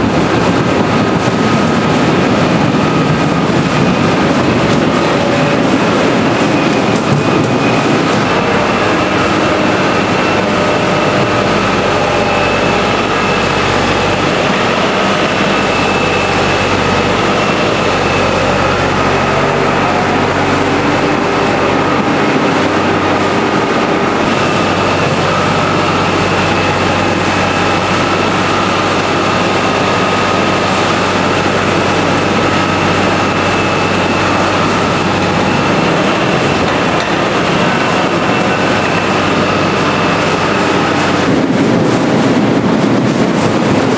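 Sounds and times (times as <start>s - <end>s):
machine whining tones: 0.0s - 43.9s
machinery humming: 0.0s - 43.9s.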